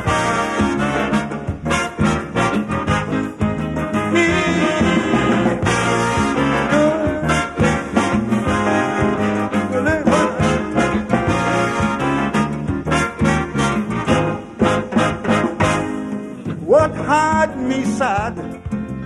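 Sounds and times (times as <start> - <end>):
horn section playing melody: 0.0 - 16.5
drums: 0.0 - 19.0
electric guitar: 0.0 - 19.0.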